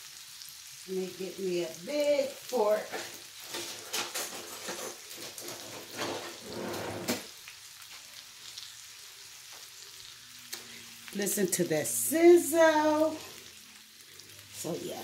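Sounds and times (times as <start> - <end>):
spareribs sizzling and crackling: 0.0 - 15.0.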